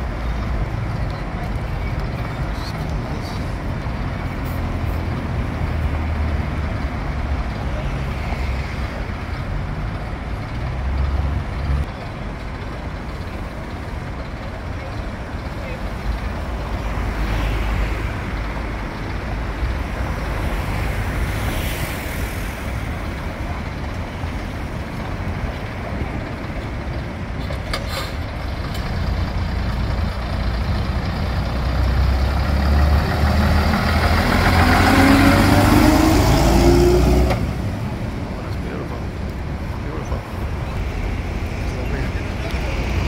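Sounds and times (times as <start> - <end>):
bus engine rumbling: 0.0 - 43.0.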